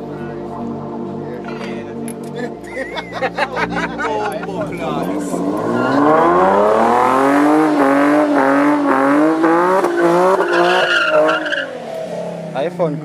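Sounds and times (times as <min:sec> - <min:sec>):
race car engines at full throttle: 0:00.0 - 0:13.0.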